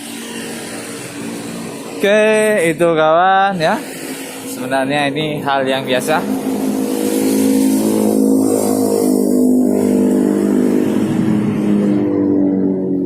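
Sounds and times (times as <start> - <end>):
two-stroke motorcycle engine growling: 0.0 - 13.0.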